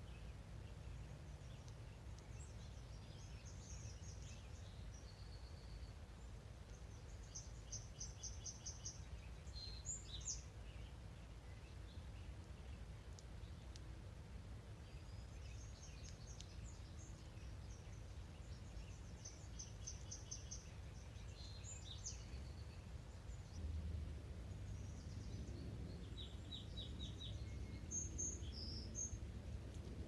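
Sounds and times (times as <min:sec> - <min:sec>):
low background rumble: 0:00.0 - 0:30.0
songbird chirping and trilling: 0:00.0 - 0:30.0.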